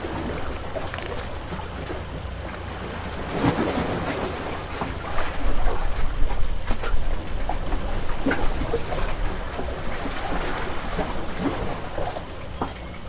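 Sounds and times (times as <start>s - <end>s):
wash of open water: 0.0s - 13.0s.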